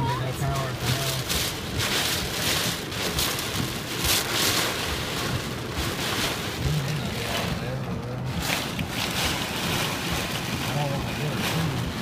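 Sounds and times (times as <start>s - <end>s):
heavy rain lashing a car: 0.0s - 12.0s.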